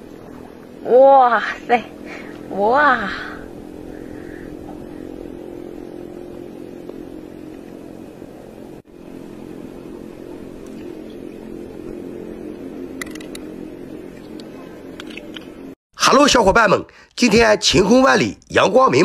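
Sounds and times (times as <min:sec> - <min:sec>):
low droning hum: 0:00.0 - 0:15.8.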